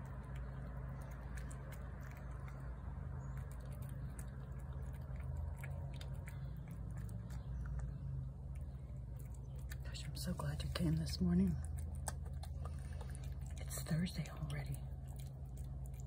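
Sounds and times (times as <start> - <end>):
cat chewing wet food: 0.0 - 16.0
low steady rumble: 0.0 - 16.0.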